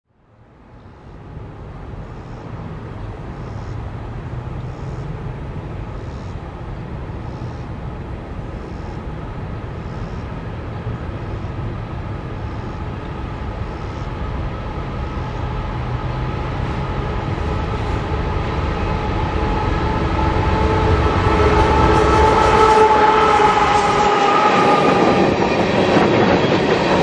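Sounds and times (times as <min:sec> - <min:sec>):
faint steady whine: 0:00.1 - 0:24.2.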